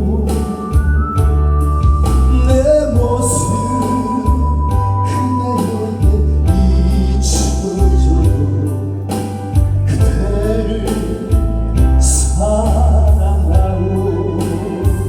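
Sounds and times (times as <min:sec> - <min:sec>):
backing track with heavy bass: 0:00.0 - 0:15.0
person singing: 0:00.0 - 0:15.0.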